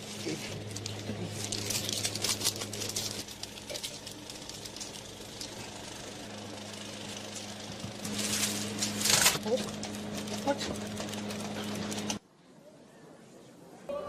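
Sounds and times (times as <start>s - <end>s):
rapid crackling and clicking: 0.0s - 12.2s
steady low hum: 0.0s - 14.0s.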